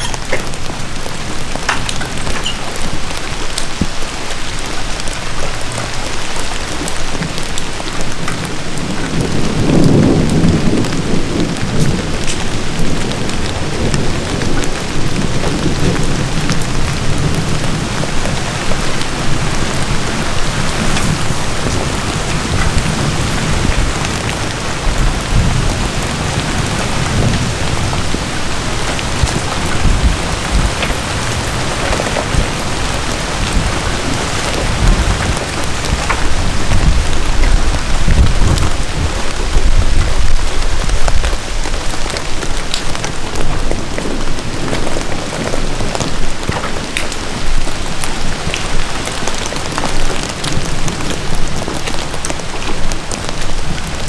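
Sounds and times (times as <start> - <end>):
rain falling in forest: 0.0 - 54.0
distant thunder rumble: 5.0 - 54.0.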